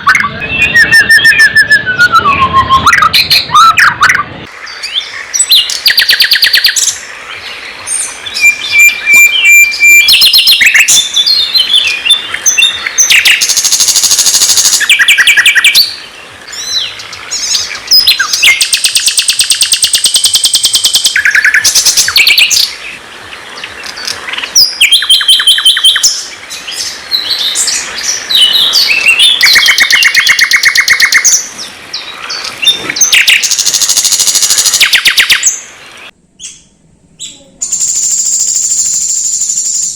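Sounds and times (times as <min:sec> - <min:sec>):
songbird trills and whistles: 0:00.0 - 0:07.0, 0:07.9 - 0:22.7, 0:23.9 - 0:35.6, 0:36.4 - 0:39.9.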